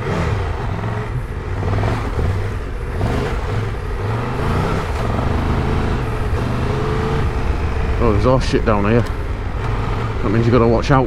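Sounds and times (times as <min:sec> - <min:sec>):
motorcycle engine accelerating: 0:00.0 - 0:10.9
steady rushing noise: 0:00.0 - 0:11.0.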